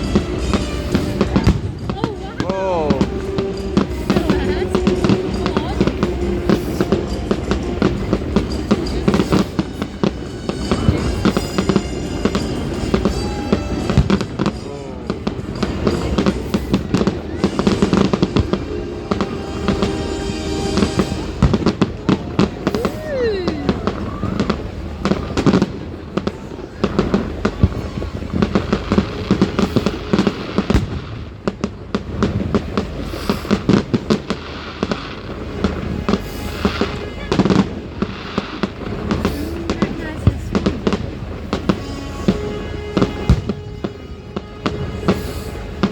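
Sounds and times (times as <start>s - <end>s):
fireworks bangs and crackling: 0.0s - 45.9s
music playing: 0.0s - 45.9s.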